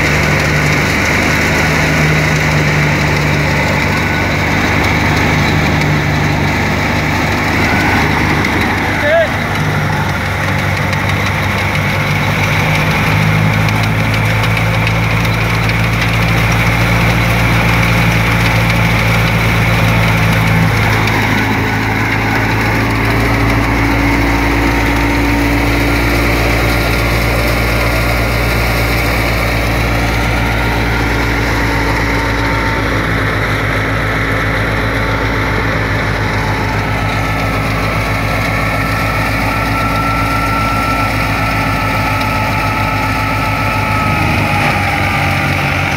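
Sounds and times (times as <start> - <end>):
threshing drum and fan: 0.0 - 45.9
tractor diesel engine: 0.0 - 45.9.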